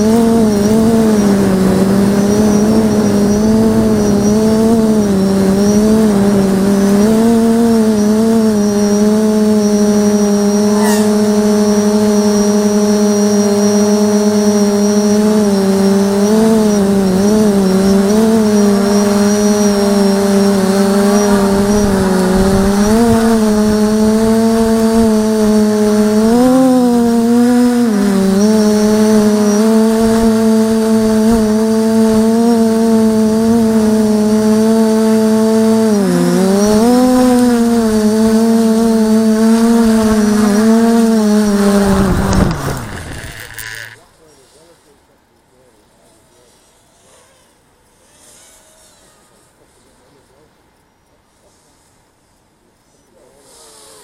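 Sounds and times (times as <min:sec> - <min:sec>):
drone propellers humming: 0:00.0 - 0:44.7
faint high whine: 0:00.0 - 0:54.0.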